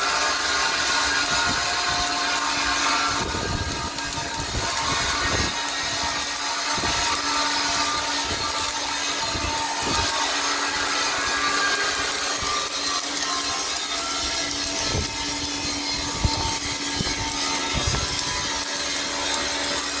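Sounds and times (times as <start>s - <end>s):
arc welding crackling and hissing: 0.0s - 20.0s.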